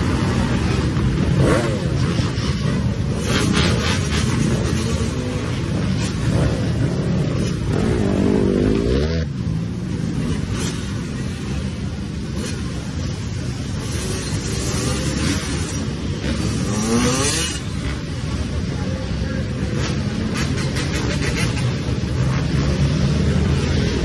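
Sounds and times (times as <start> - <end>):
dirt bike and atv engines revving: 0.0 - 24.0.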